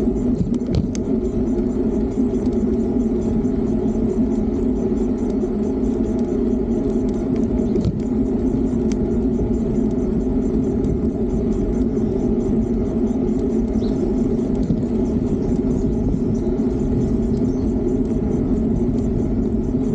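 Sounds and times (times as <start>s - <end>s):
electric bike riding noise: 0.0s - 19.9s.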